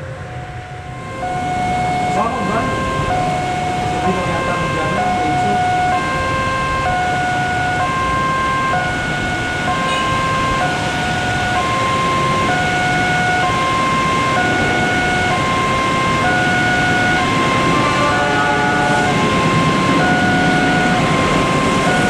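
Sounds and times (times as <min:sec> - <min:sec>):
level crossing two-tone alarm: 0:00.0 - 0:22.0
traffic noise: 0:00.0 - 0:22.0.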